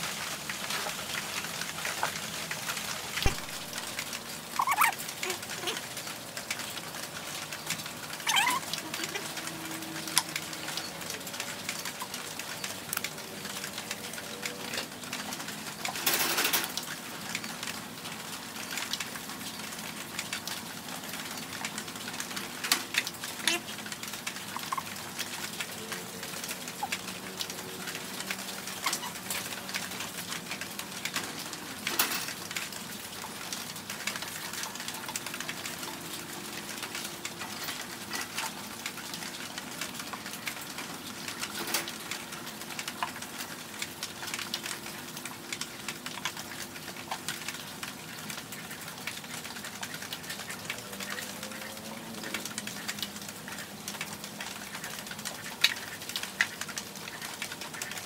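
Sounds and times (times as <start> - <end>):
paint roller wet crackle: 0.0 - 58.0.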